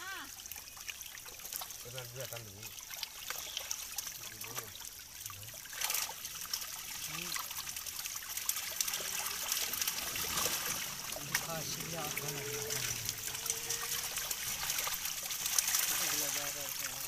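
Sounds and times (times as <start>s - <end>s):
fish splashing at water surface: 0.0s - 17.0s.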